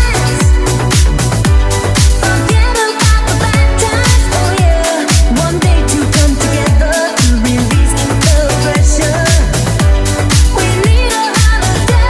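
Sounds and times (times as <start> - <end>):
four-on-the-floor kick drum: 0.0 - 12.0
offbeat hi-hats: 0.0 - 12.0.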